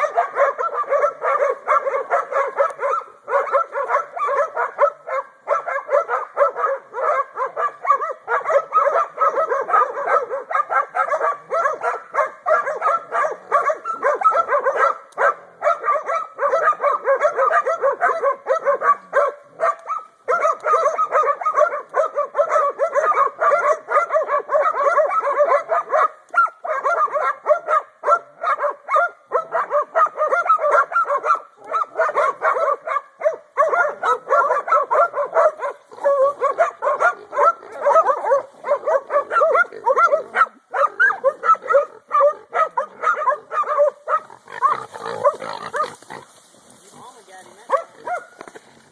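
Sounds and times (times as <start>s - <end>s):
dogs bay-barking: 0.0s - 46.3s, 47.6s - 48.9s.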